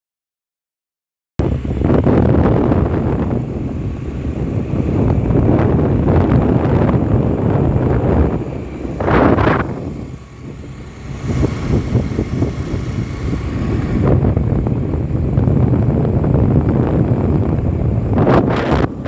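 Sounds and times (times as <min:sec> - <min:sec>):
vehicle road noise: 0:01.4 - 0:19.0
wind buffeting microphone: 0:01.4 - 0:19.0.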